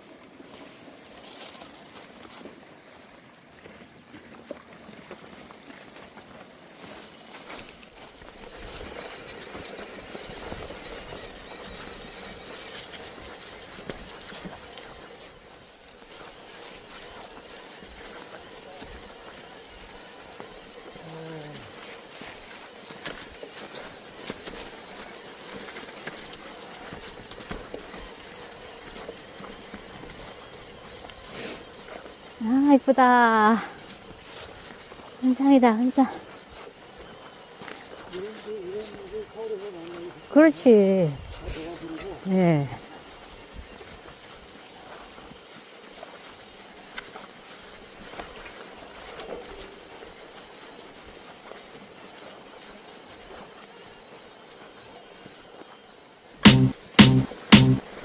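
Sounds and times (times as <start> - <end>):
bike tyres on snow: 0.0 - 58.0.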